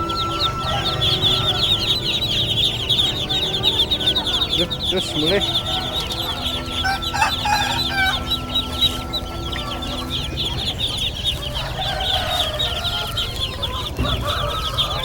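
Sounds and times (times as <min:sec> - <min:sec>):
chicks peeping: 0:00.0 - 0:15.0
lower poultry calls: 0:00.0 - 0:15.0.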